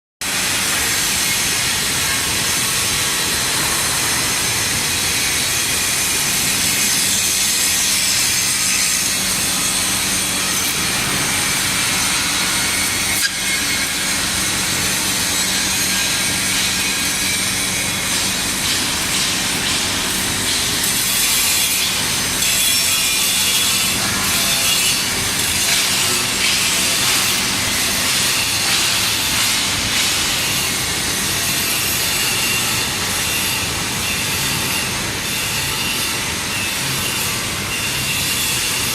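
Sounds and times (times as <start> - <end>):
welding arc hissing: 0.4 - 33.8.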